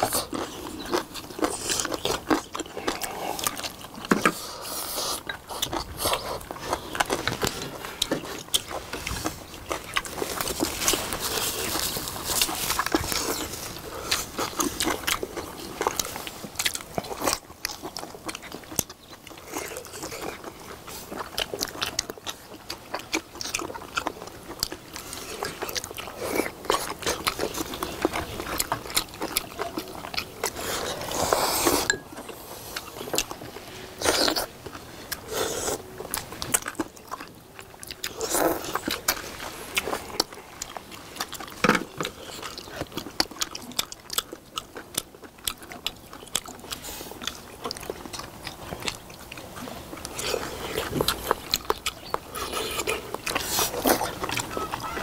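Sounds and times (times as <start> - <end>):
people chewing and biting: 0.0 - 55.0
crunching: 5.0 - 55.0.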